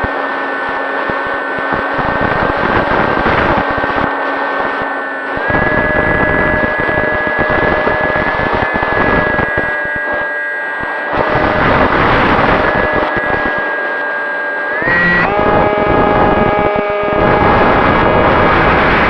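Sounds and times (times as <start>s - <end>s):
wind buffeting on microphone: 0.0s - 13.8s, 14.8s - 19.0s
electric motor and propeller whining: 0.0s - 19.0s.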